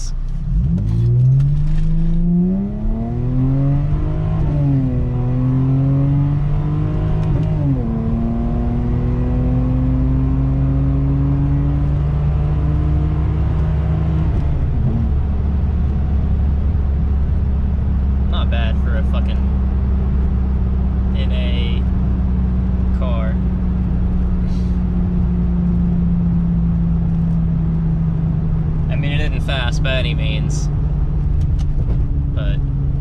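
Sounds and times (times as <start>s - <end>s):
car engine accelerating hard: 0.4s - 33.0s.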